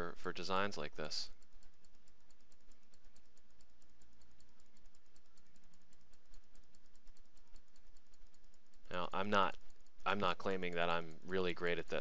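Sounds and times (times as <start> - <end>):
computer mouse clicking: 0.1 - 12.0.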